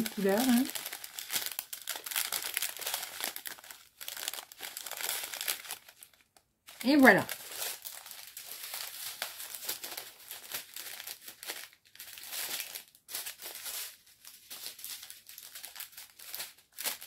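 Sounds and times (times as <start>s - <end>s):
small plastic bags crinkling: 0.0s - 17.0s.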